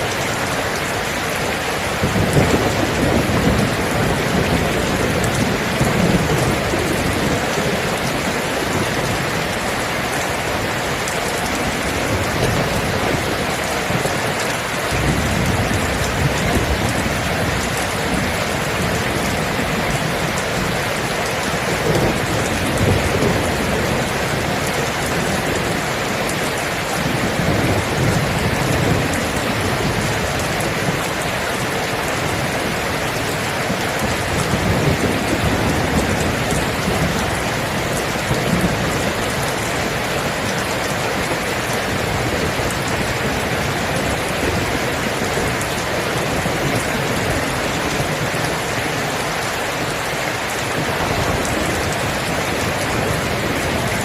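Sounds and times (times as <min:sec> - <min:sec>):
heavy rain: 0:00.0 - 0:54.0
thunder rumbles: 0:00.2 - 0:54.0.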